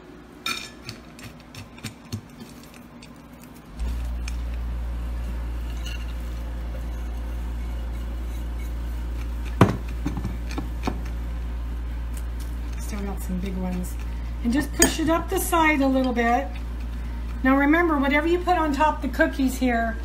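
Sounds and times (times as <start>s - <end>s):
low hum: 3.0s - 20.0s.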